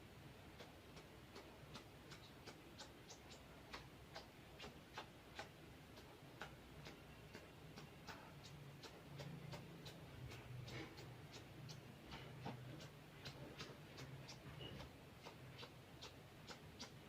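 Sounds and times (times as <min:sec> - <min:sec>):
low steady hum: 0:00.0 - 0:17.0
faint sharp clicks: 0:00.6 - 0:17.0.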